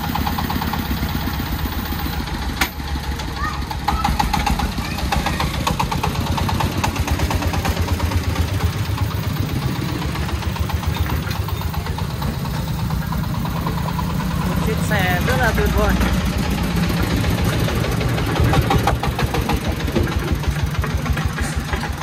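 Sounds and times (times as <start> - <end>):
diesel engine knocking: 0.0 - 22.0.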